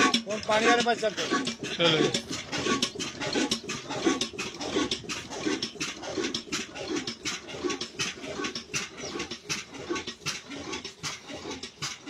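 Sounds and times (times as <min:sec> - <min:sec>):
stationary engine chugging: 0:00.0 - 0:12.0.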